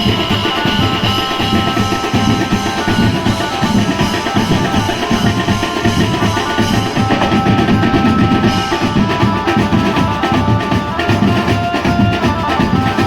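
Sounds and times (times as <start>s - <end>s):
melody of long held notes: 0.0s - 11.4s
fast dense drumming: 0.0s - 13.0s.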